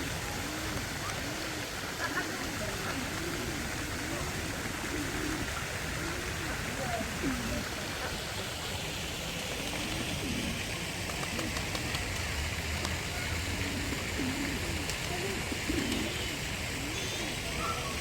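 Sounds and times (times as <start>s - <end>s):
doves cooing: 0.0s - 8.5s, 9.2s - 18.0s
faint voices: 0.0s - 18.0s
steady hiss: 0.0s - 18.0s.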